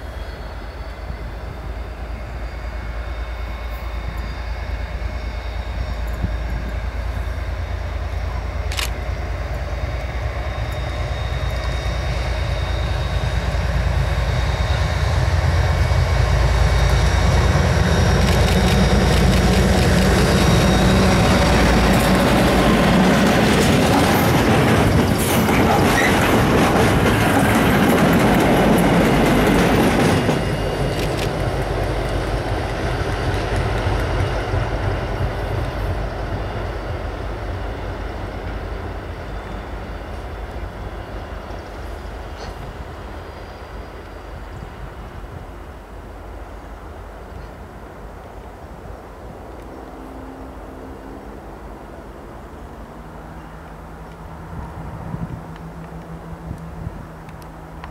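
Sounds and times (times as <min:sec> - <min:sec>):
diesel locomotive engine rumble: 0:00.0 - 0:57.9
wheel and rail noise: 0:00.0 - 0:57.9.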